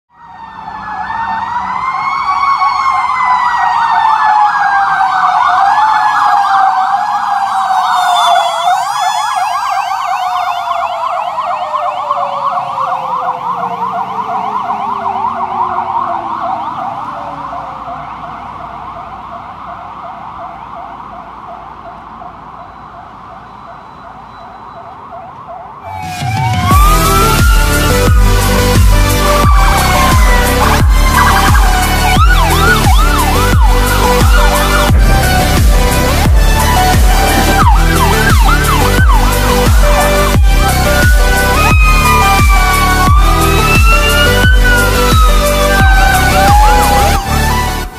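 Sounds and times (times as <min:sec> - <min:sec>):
electronic siren yelp: 0:00.1 - 0:47.9
mechanical siren wailing: 0:00.1 - 0:47.9.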